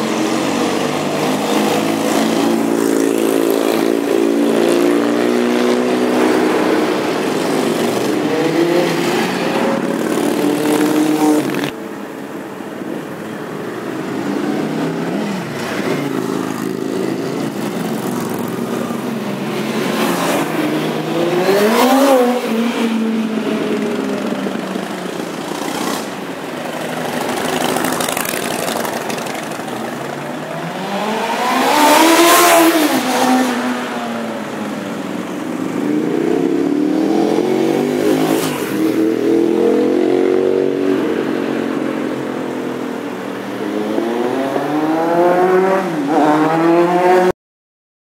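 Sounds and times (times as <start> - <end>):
motorcycles riding past: 0.0 - 11.8, 14.0 - 47.3.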